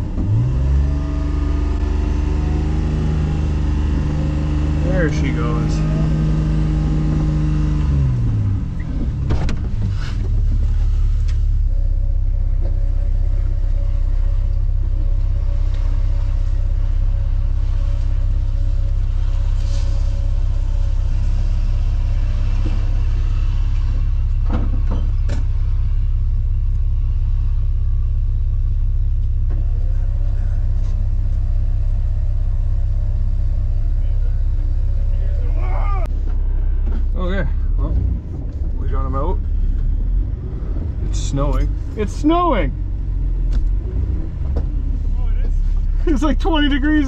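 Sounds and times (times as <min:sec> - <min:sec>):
vehicle engine idling: 0:00.0 - 0:47.0.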